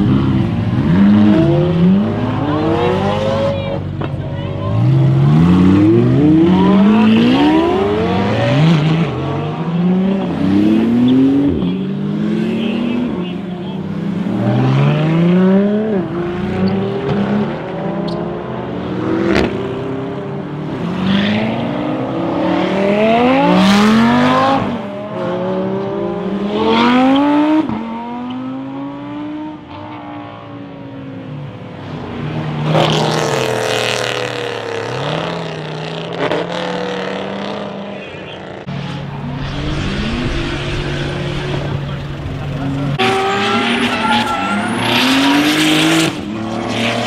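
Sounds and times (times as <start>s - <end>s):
car engines revving with upshifts: 0.0s - 47.0s.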